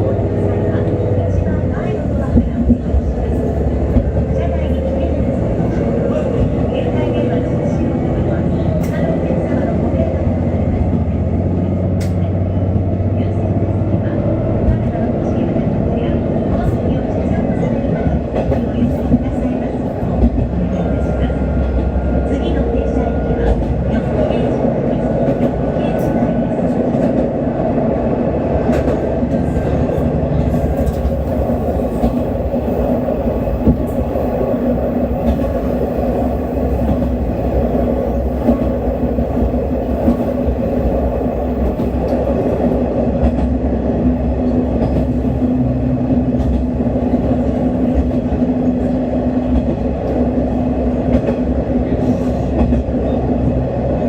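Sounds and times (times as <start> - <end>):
train engine and wheel hum: 0.0 - 54.0.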